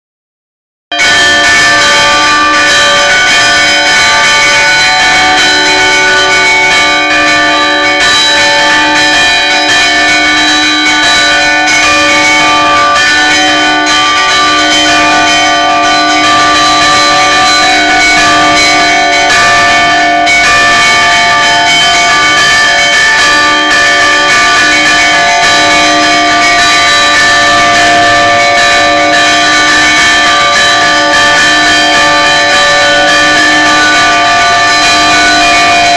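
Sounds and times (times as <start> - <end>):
church bells ringing: 0.9 - 35.9.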